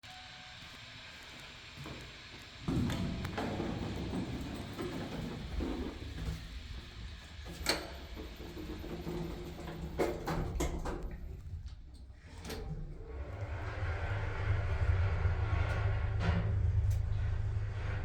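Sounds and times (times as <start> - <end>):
elevator low rumble: 0.2 - 18.0.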